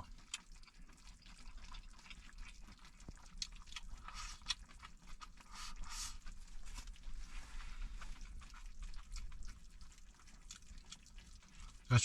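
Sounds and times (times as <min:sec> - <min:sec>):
food crackling: 0:00.0 - 0:12.0.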